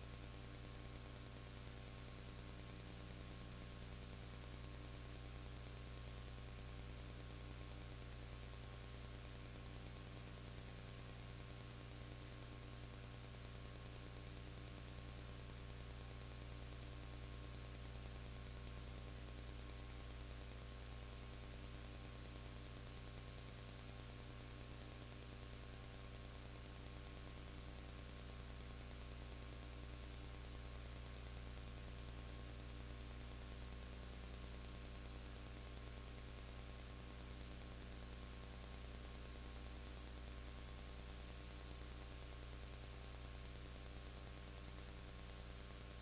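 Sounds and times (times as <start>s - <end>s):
electrical mains hum: 0.0s - 46.0s.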